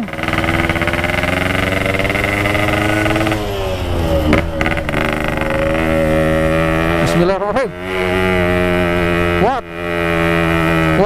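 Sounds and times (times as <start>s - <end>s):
two-stroke motorcycle engine running: 0.0s - 11.0s.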